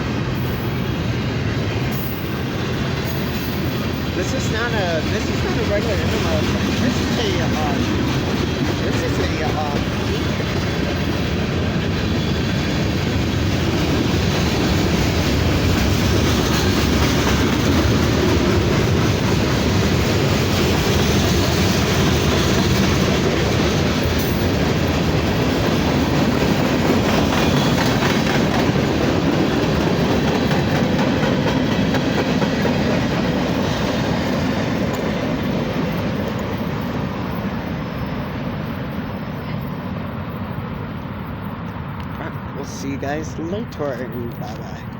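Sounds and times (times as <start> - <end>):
steel wheels rumbling on rail: 0.0 - 44.9.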